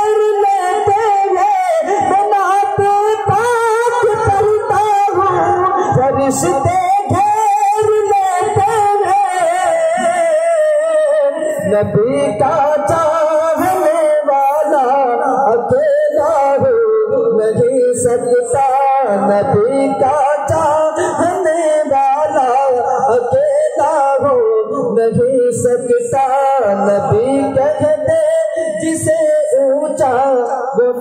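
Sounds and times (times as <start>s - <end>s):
man singing into a microphone: 0.0s - 31.0s.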